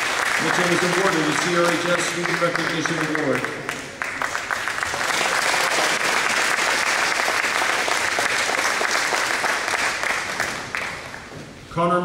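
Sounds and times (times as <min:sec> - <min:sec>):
crowd clapping: 0:00.0 - 0:11.4.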